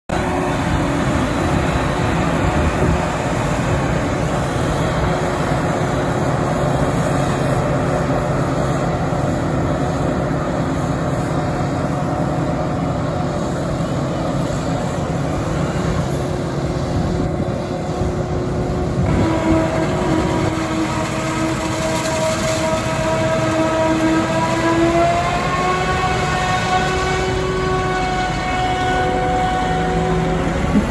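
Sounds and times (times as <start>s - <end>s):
rising whine: 0.1s - 30.9s
tractor running: 0.1s - 30.9s.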